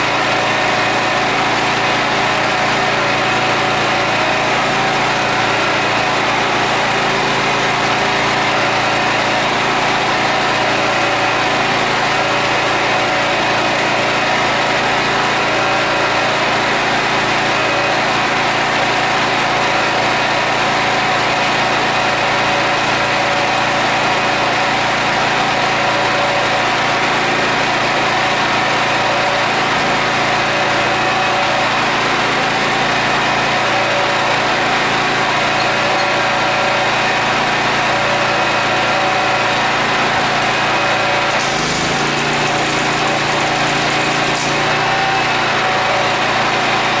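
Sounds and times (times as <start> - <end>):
generator engine running: 0.0 - 47.0.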